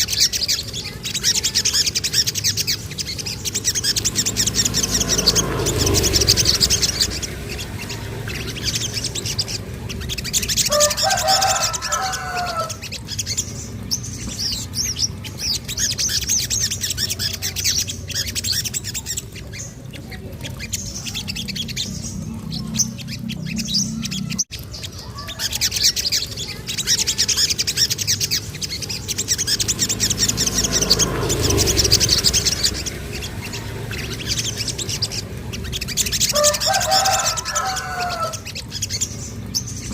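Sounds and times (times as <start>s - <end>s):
low gliding bird notes: 0.0s - 39.9s
songbird chirps and trills: 0.0s - 39.9s.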